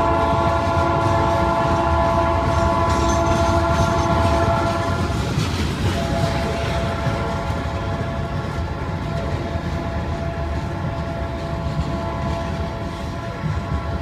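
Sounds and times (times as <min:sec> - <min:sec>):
train horn chord: 0:00.0 - 0:05.2, 0:05.9 - 0:14.0
rumble of rolling train wheels: 0:00.0 - 0:14.0.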